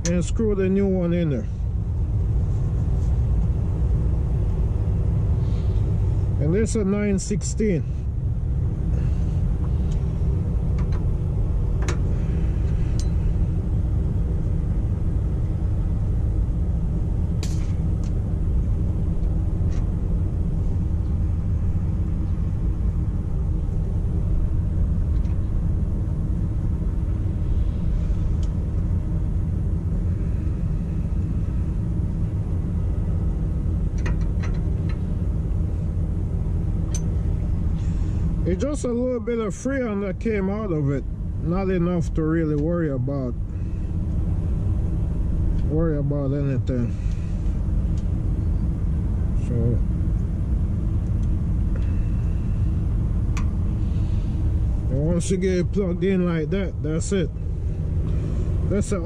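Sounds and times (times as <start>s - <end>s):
large engine idling: 0.0s - 59.0s.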